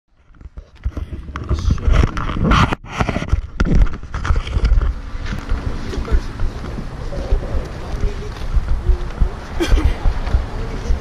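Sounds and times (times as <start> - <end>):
wind buffeting microphone: 0.3 - 11.0.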